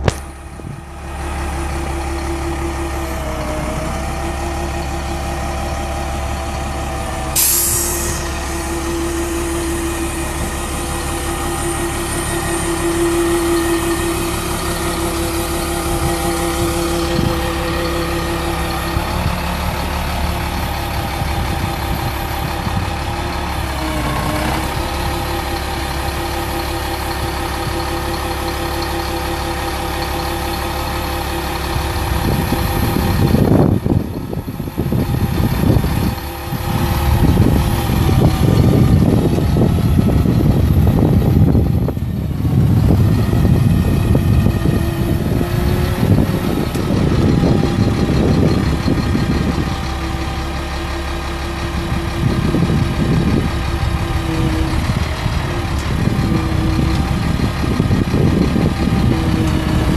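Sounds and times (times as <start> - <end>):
diesel engine running: 0.0 - 59.9
irregular rumble: 0.0 - 59.9.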